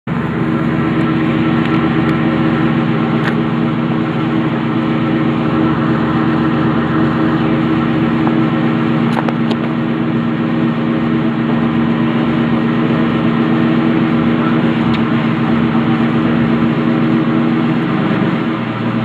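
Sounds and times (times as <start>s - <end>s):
car engine idling: 0.1s - 19.0s.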